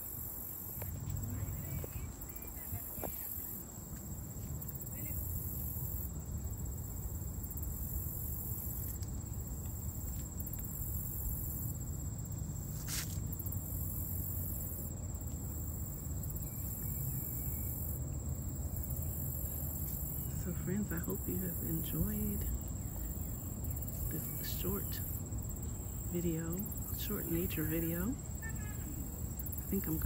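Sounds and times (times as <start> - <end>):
insects droning: 0.0 - 30.0
shrill insect chorus: 0.0 - 30.0.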